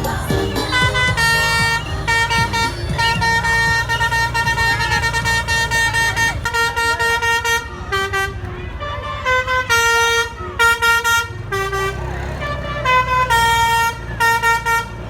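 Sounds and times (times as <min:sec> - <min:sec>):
bus musical horn blasts: 0:00.0 - 0:15.0.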